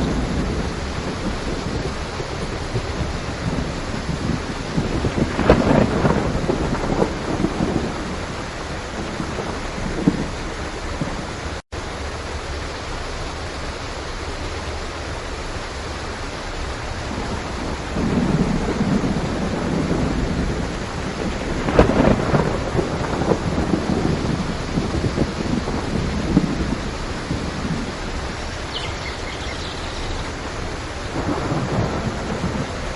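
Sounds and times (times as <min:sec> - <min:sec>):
thunder rumbling: 0:00.0 - 0:11.6, 0:17.0 - 0:32.9
heavy rain: 0:00.0 - 0:32.9.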